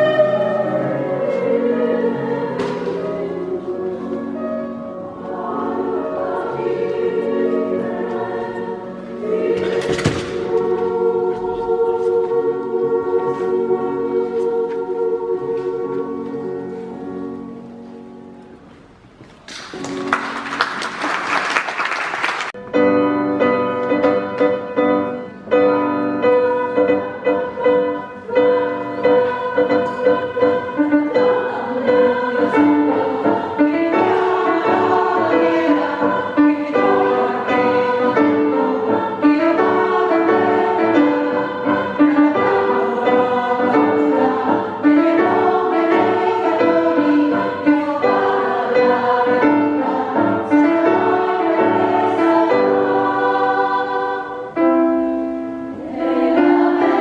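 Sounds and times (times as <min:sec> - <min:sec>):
women's choir singing: 0:00.0 - 0:18.4, 0:23.4 - 0:57.0
piano accompaniment: 0:00.0 - 0:57.0.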